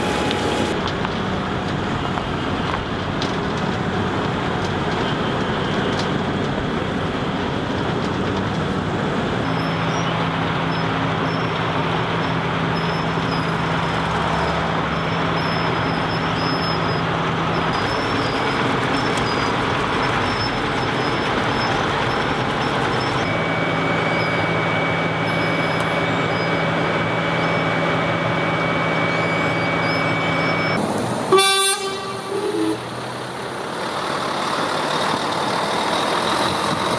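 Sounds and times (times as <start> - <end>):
heavy vehicle engines humming: 0.0 - 36.9
road traffic: 0.0 - 36.9.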